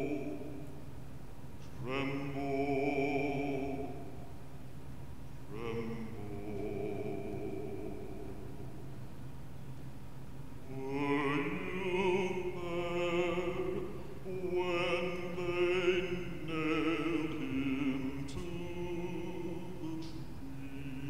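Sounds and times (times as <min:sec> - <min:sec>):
person singing with vibrato: 0:00.0 - 0:00.8, 0:01.8 - 0:04.4, 0:05.5 - 0:09.0, 0:10.6 - 0:21.0.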